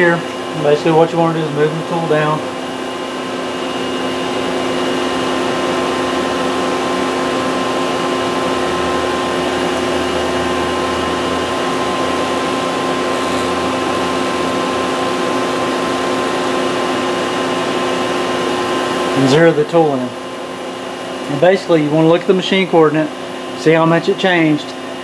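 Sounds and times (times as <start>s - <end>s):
machining center mechanical hum: 0.0s - 25.0s.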